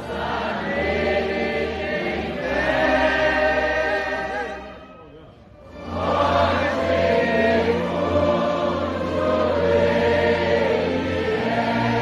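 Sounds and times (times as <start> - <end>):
congregation singing a hymn: 0.0 - 4.7, 5.8 - 12.0.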